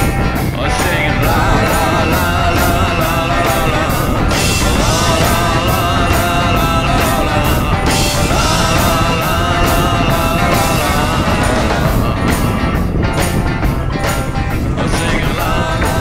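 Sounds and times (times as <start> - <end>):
rock music with drum beat: 0.0 - 16.0.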